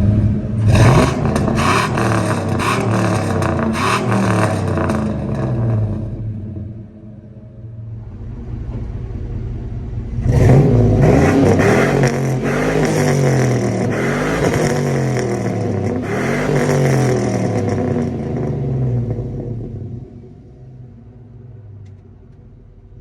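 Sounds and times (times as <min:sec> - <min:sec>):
truck engine idling and revving: 0:00.0 - 0:23.0.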